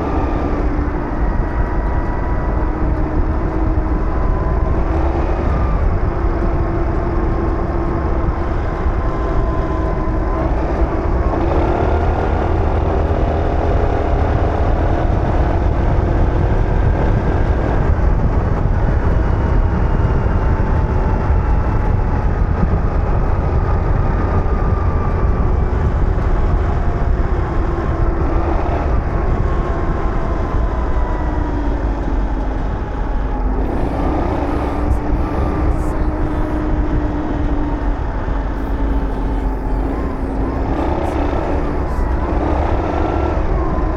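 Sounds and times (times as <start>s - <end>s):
wind rumble: 0.0s - 43.9s.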